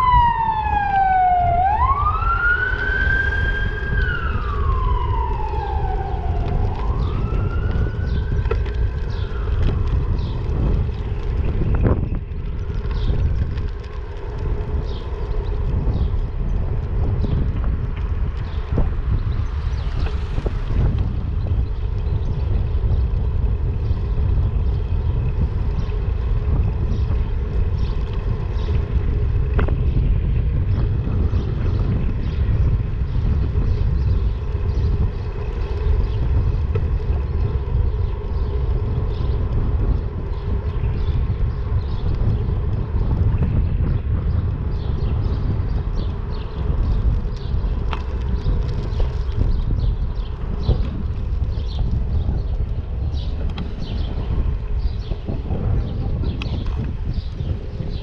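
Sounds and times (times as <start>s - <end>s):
motorbike ride rumble: 0.0s - 58.0s
wind rush on microphone: 0.0s - 58.0s.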